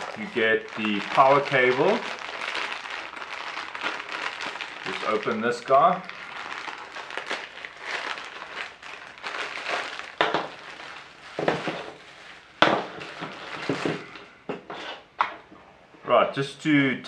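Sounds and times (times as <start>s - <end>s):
plastic bags crinkling: 0.0s - 14.2s.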